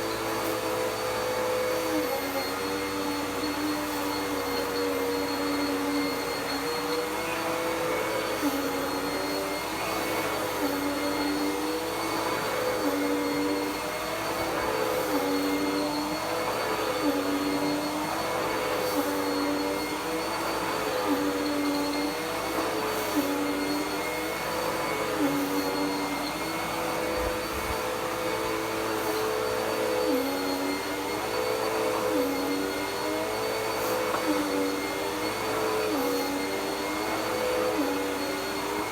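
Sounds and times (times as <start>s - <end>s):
upright vacuum running: 0.0s - 38.9s.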